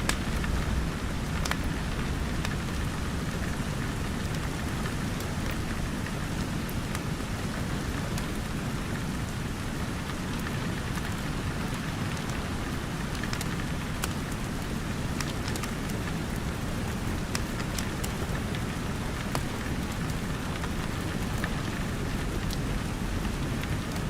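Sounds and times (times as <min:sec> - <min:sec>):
wood fire crackling: 0:00.0 - 0:08.3, 0:08.9 - 0:24.0
steady rain hissing: 0:00.0 - 0:24.0.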